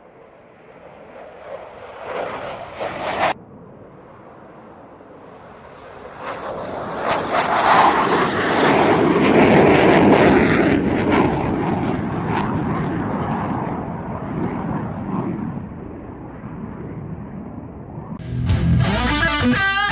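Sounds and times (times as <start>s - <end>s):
fighter jet taking off: 0.6s - 19.9s.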